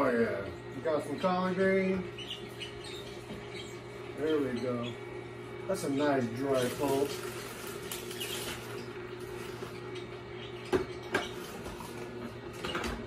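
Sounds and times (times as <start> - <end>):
juicer humming: 0.0 - 13.0.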